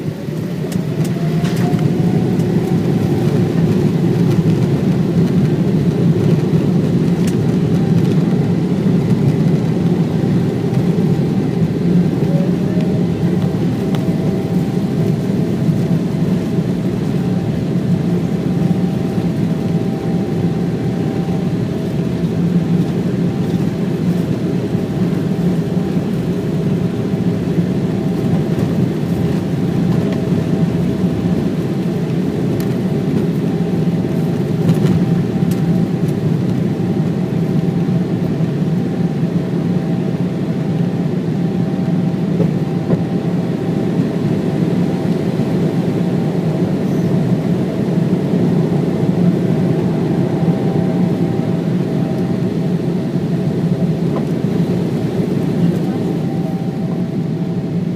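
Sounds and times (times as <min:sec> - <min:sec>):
aircraft engine drone: 0:00.0 - 0:57.9
faint steady whine: 0:00.0 - 0:57.9.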